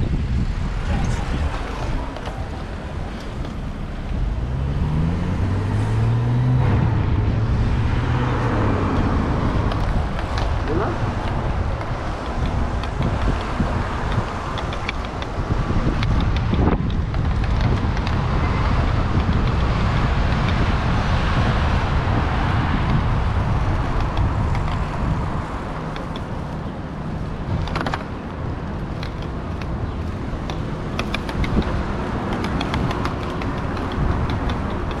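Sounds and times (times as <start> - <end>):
street traffic: 0.0 - 35.0
wind noise on microphone: 0.0 - 35.0.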